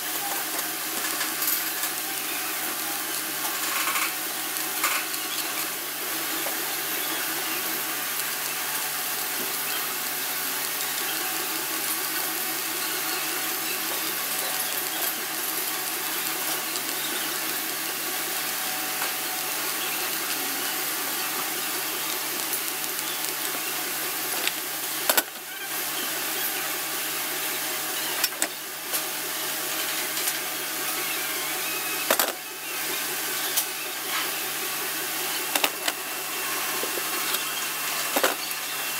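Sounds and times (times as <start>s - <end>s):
welding arc crackling hiss: 0.0s - 38.9s.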